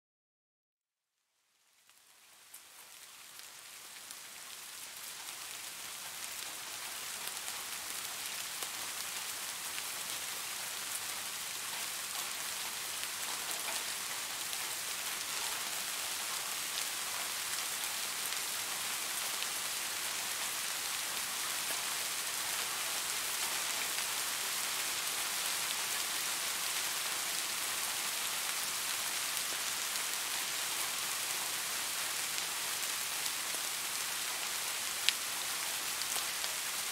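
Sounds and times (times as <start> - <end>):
steady rain falling: 1.4 - 36.9.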